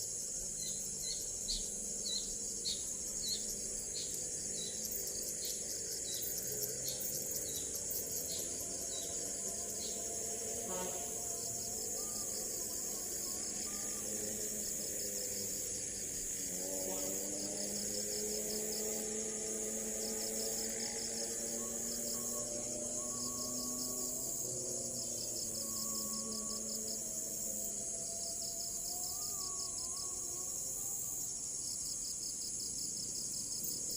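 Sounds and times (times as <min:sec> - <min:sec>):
crickets and insects trilling: 0:00.0 - 0:33.9.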